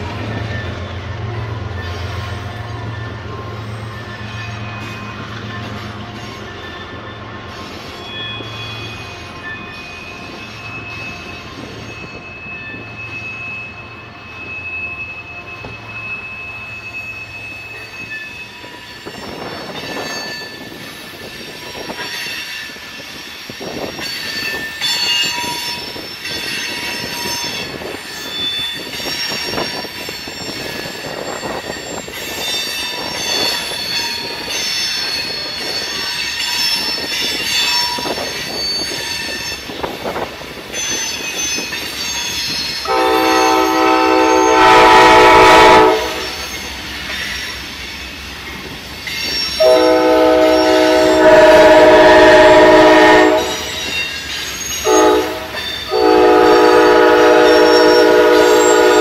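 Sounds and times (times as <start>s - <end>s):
train wheels squealing on rails: 0.0s - 59.0s.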